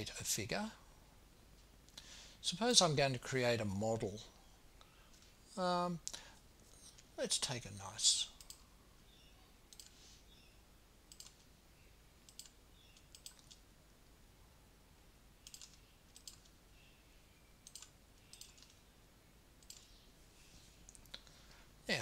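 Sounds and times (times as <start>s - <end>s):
room hiss: 0.0s - 22.0s.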